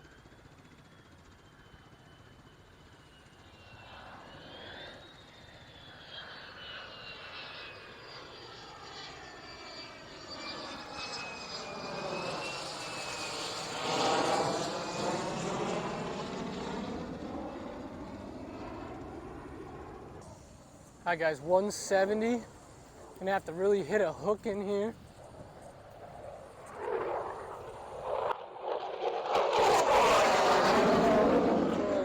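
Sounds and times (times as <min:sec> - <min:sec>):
fighter jet flying past: 0:03.0 - 0:32.0.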